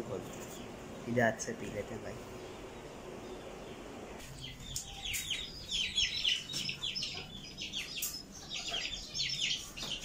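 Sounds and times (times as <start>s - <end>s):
chicks peeping: 0.1s - 10.0s.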